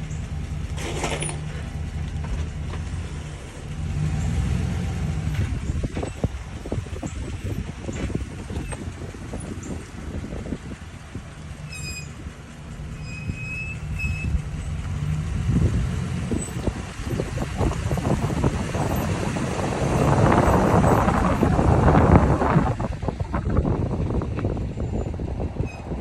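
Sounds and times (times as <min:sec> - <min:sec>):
brakes squealing: 0:00.0 - 0:26.0
engine and road rumble: 0:00.0 - 0:26.0.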